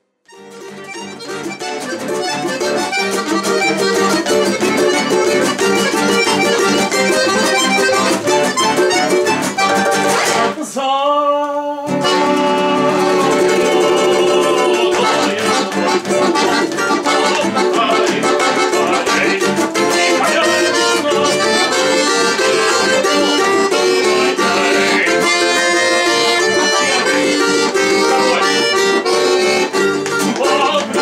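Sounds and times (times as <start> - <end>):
acoustic guitar strumming: 0.1 - 10.6, 11.8 - 31.0
button accordion: 0.3 - 10.6, 11.9 - 31.0
plucked string instrument: 0.3 - 10.6, 11.9 - 31.0.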